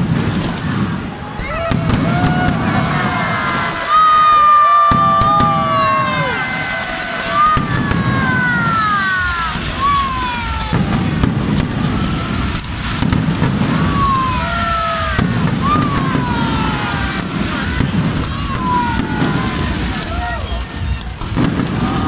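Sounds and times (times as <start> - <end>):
fireworks crackles: 0.0 - 22.0
fireworks whistles falling in pitch: 1.4 - 22.0.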